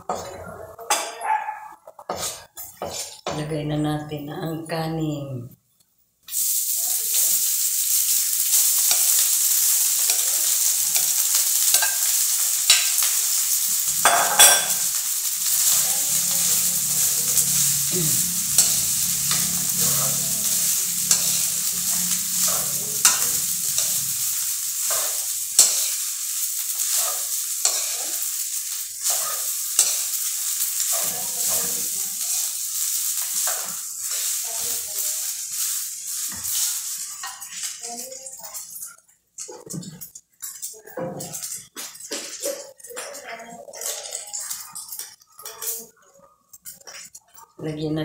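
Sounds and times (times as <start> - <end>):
spatula scraping a pan: 1.8 - 3.4, 6.3 - 47.6
rice sizzling in a pan: 1.9 - 3.3, 6.2 - 47.5.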